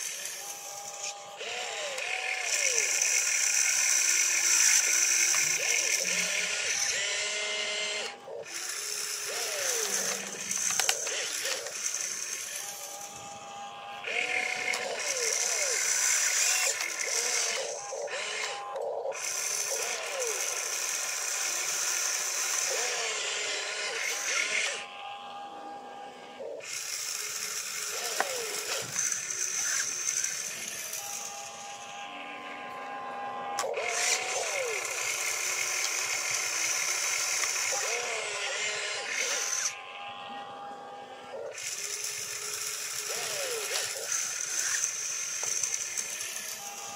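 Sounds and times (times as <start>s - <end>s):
small electric motors whining: 0.0s - 46.9s.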